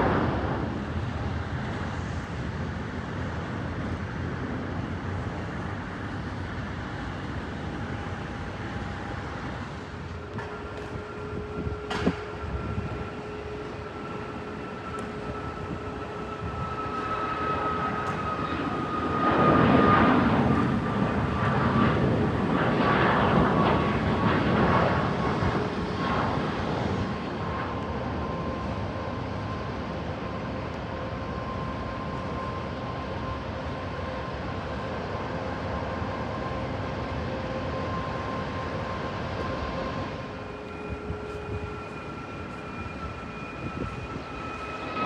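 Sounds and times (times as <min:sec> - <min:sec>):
jet airliner passing: 0:00.0 - 0:45.0.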